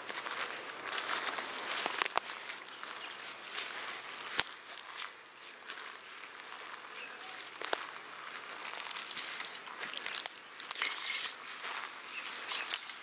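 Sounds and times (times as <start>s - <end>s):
dry forest litter crunching: 0.0s - 13.0s.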